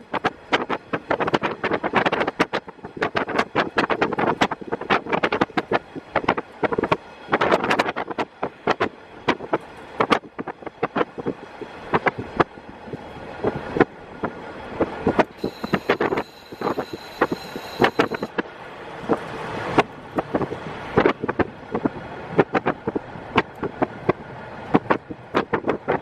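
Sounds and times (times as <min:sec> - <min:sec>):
railcar wheels knocking and clattering: 0:00.0 - 0:26.0
wind buffeting microphone: 0:00.0 - 0:26.0.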